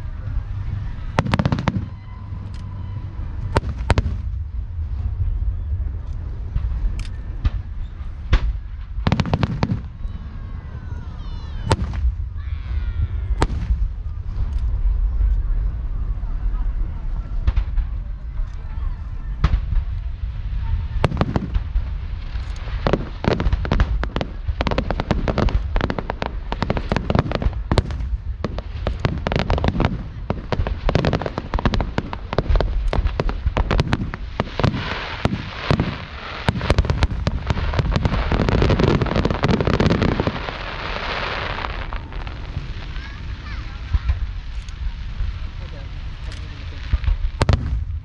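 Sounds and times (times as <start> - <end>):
fireworks crackling: 0.0 - 48.0
low rumble: 0.0 - 48.0
fireworks bangs and pops: 0.7 - 10.2, 11.5 - 15.4, 17.3 - 48.0.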